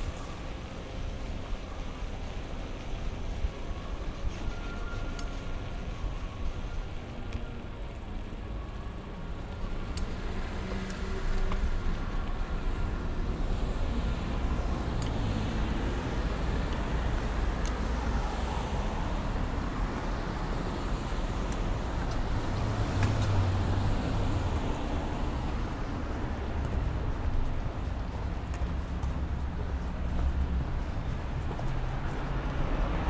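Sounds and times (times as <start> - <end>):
passing road vehicles rumbling: 0.0 - 33.0.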